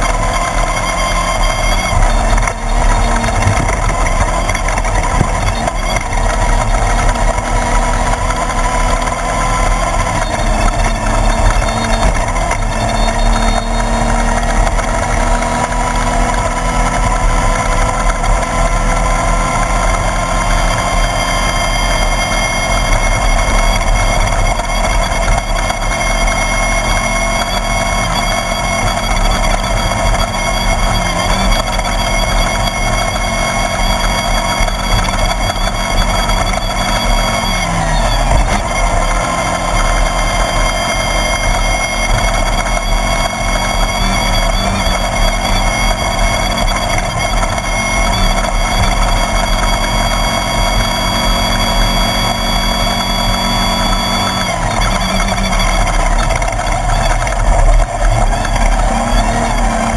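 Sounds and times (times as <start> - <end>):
buggy engine running: 0.0 - 59.9
rough driving noise: 0.0 - 59.9.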